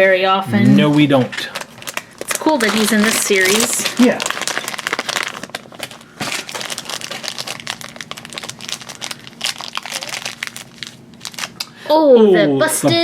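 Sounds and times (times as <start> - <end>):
plastic wrapper crinkling: 0.8 - 11.7.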